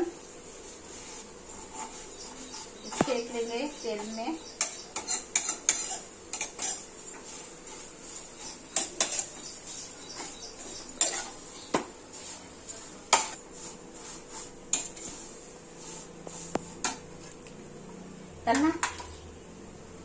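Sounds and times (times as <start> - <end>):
spoon scraping and knocking on pan: 0.8 - 17.3.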